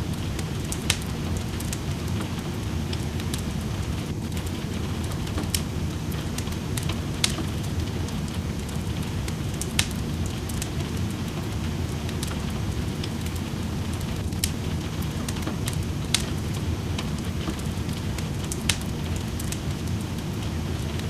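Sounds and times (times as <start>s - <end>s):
fire popping: 0.0s - 21.0s
rain rushing: 0.0s - 21.0s
wood fire crackling: 0.0s - 21.0s.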